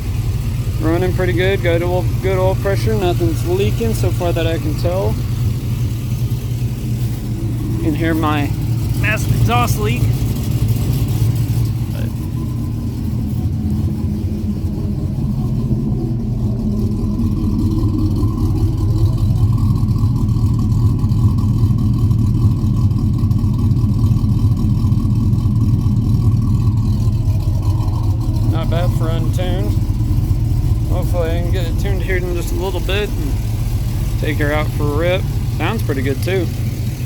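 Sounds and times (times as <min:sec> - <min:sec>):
exhaust leak: 0:00.0 - 0:37.0
truck engine idling: 0:00.0 - 0:37.0.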